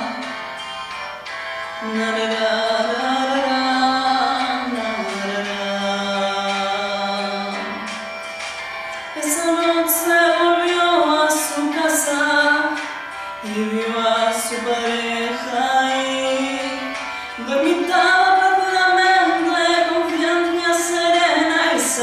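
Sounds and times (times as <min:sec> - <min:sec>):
woman singing unaccompanied: 0:01.8 - 0:07.9, 0:09.2 - 0:22.0.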